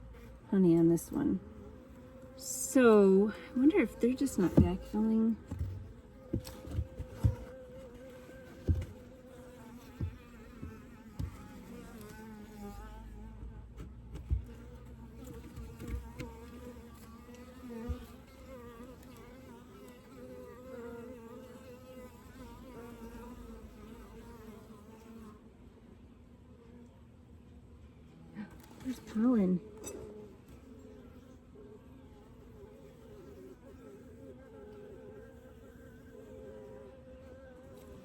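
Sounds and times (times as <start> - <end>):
honeybees buzzing: 0.0 - 13.5, 14.2 - 25.3, 28.4 - 38.0.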